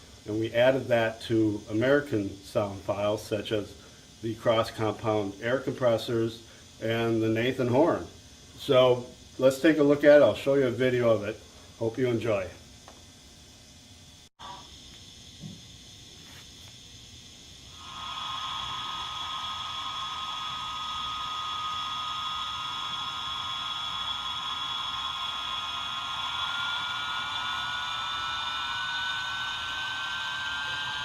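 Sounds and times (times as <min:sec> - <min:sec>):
hissing whine from small speaker: 0:00.0 - 0:31.0.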